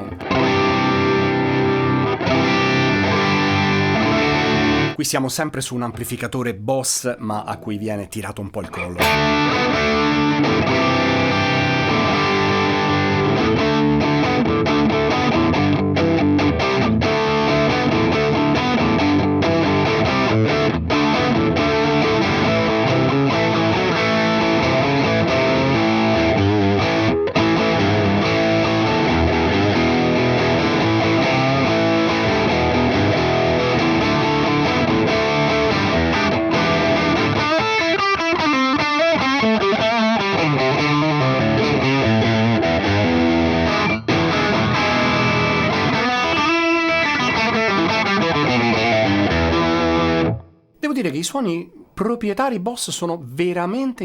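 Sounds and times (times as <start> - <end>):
distorted electric guitar: 0.0 - 5.0, 8.6 - 50.5.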